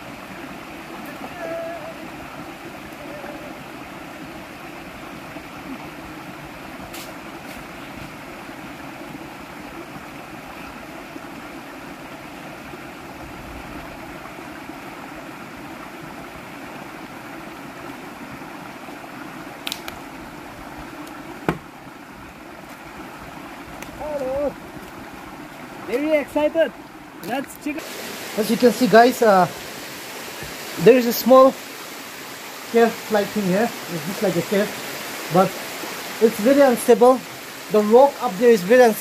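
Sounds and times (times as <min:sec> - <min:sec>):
forest stream rushing: 0:00.0 - 0:39.0.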